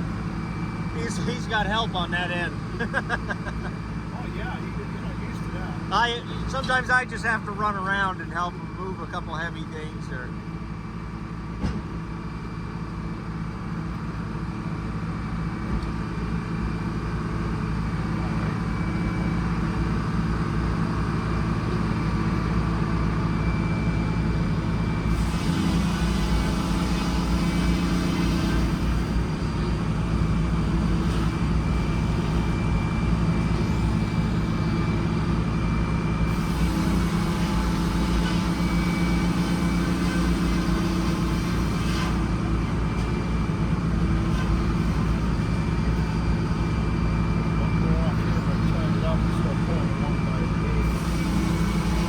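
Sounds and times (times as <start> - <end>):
bus engine running: 0.0 - 52.0.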